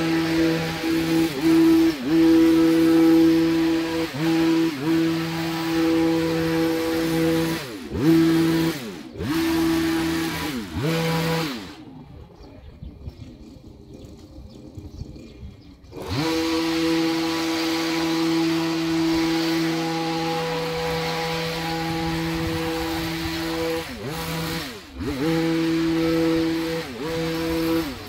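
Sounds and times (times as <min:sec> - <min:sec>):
hedge trimmer running: 0:00.0 - 0:28.0.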